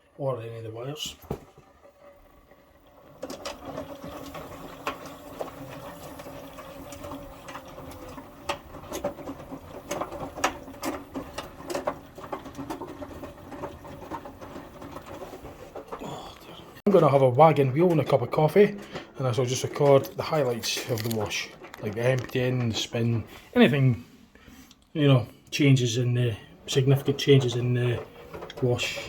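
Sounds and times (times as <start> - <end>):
washing machine motor humming: 0.8 - 24.1, 25.0 - 29.0.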